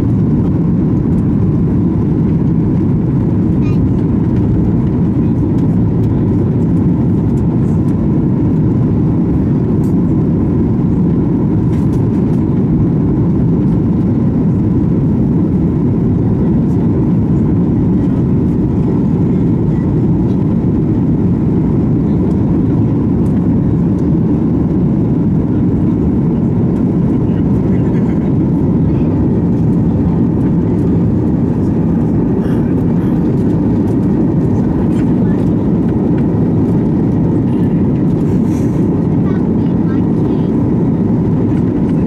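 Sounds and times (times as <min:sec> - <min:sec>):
aircraft engines and airflow roaring: 0:00.0 - 0:42.0.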